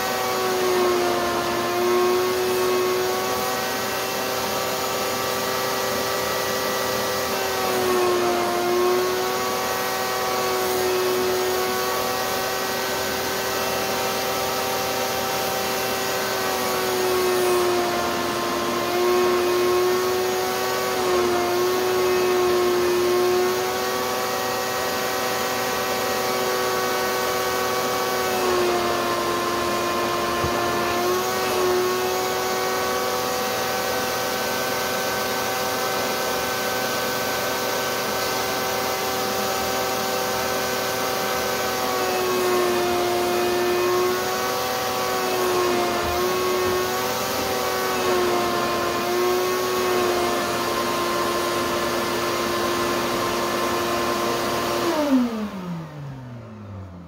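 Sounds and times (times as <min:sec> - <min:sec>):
shop vacuum motor whine: 0:00.0 - 0:57.0
vacuum motor winding down: 0:00.0 - 0:57.0.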